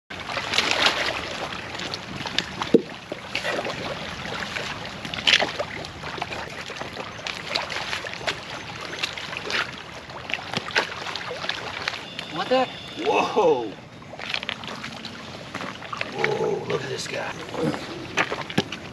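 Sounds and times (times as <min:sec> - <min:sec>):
water splashing and sloshing: 0:00.1 - 0:18.9.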